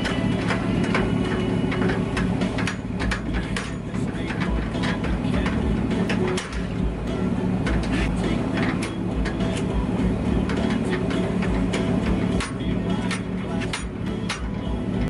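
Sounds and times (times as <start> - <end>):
sharp rattling clicks: 0.0 - 15.0
vehicle road rumble: 0.0 - 15.0.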